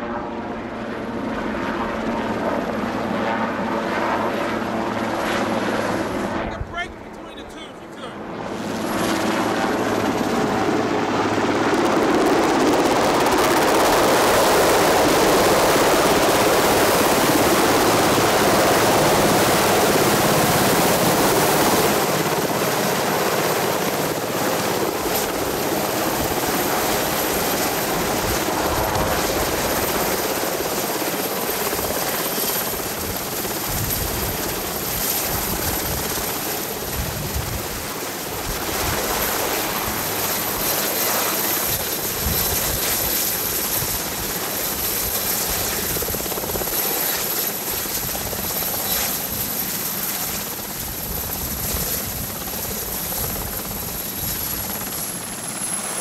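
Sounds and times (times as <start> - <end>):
helicopter rotor and turbine noise: 0.0 - 56.0.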